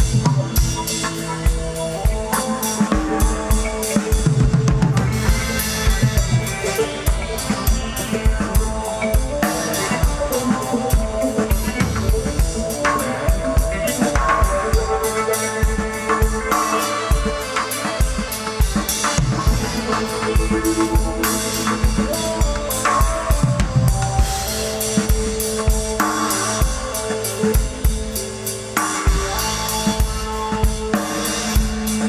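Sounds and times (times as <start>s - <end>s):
bass guitar: 0.0s - 32.0s
drum kit beat: 0.0s - 32.0s
electric guitar: 0.0s - 32.0s
keyboard notes: 0.0s - 32.0s.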